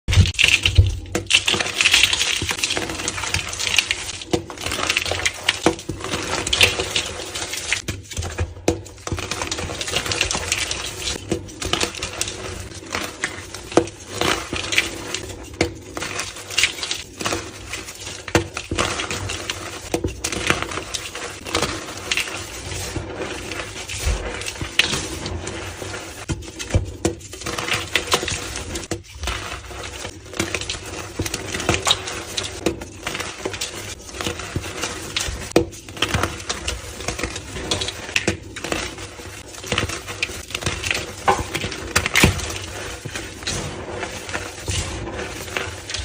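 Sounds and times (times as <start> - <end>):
chalk blocks crunching: 0.1 - 46.0.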